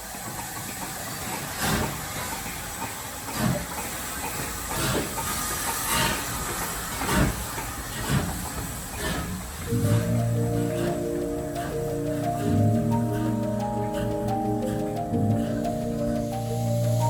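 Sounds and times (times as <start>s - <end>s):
steam hissing: 0.0s - 17.0s
steam locomotive exhaust chuffs: 0.0s - 17.0s.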